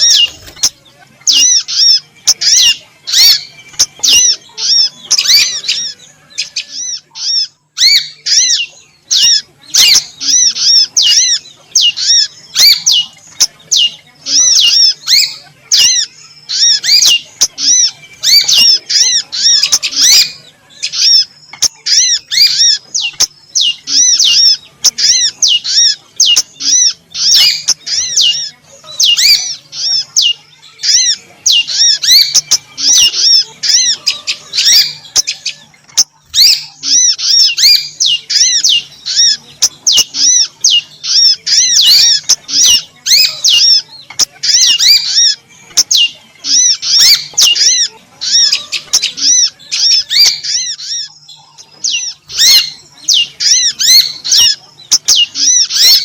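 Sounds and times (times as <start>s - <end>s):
songbird chirps: 0.0s - 56.0s.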